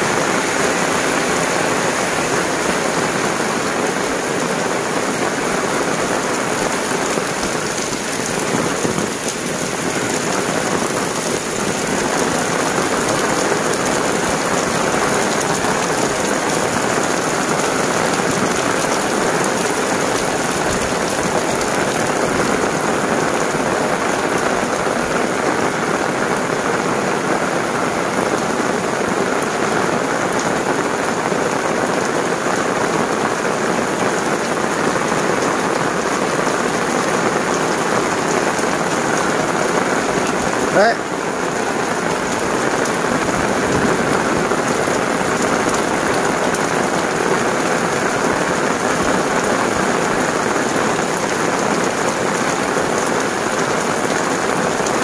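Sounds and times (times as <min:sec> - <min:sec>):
heavy rain on pavement: 0:00.0 - 0:55.0
rain on umbrella: 0:00.0 - 0:55.0.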